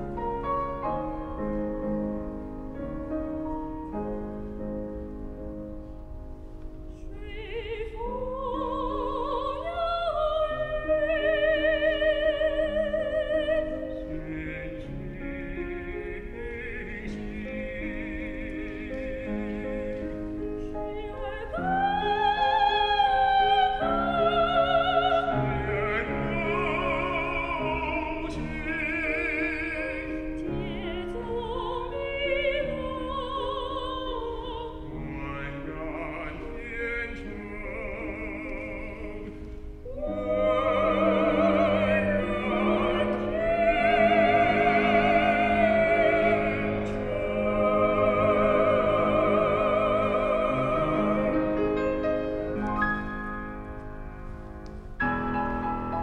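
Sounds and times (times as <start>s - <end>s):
piano accompaniment: 0.0s - 56.0s
operatic singing: 6.9s - 54.0s.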